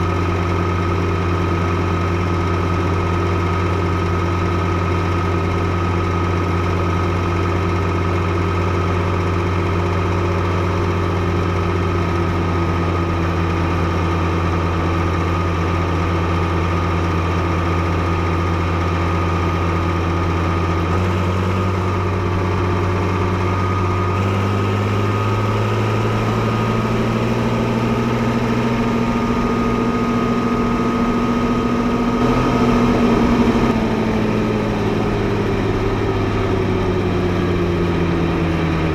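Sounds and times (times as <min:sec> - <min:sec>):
tractor diesel engine idling and revving: 0:00.0 - 0:38.9.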